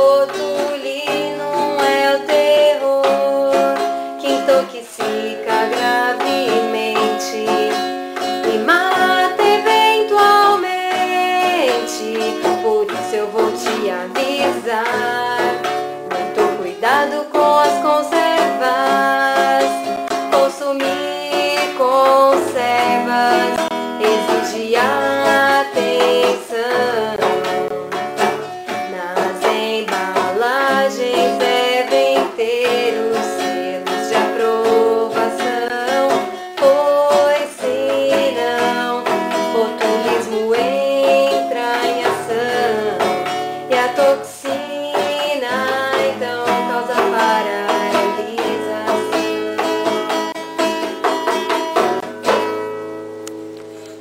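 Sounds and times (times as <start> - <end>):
person singing: 0.0 - 52.5
plucked string accompaniment: 0.0 - 54.0.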